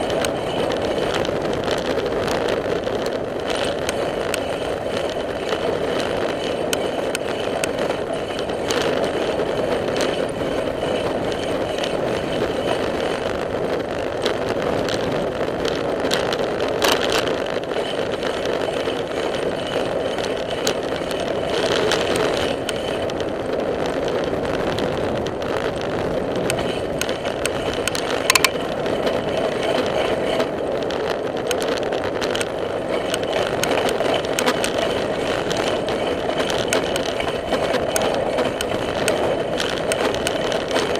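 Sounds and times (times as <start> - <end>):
bicycle rattles and clicks: 0.0 - 40.9
bicycle tyres rumbling on asphalt: 0.0 - 40.9.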